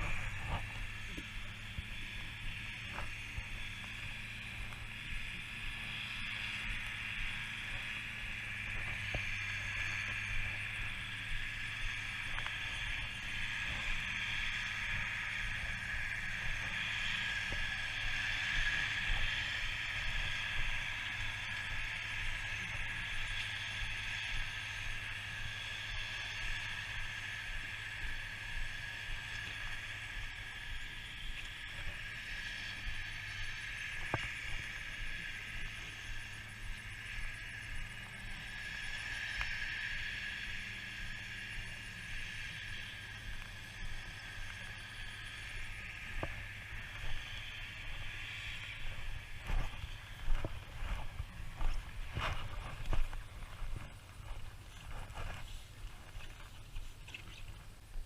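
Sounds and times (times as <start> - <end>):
faint ticks: 0.0 - 58.0
low hum: 0.0 - 58.0.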